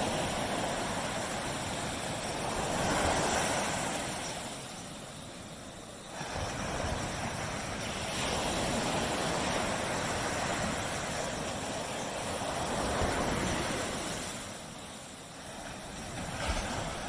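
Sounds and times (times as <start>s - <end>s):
waves breaking on a beach: 0.0s - 17.0s.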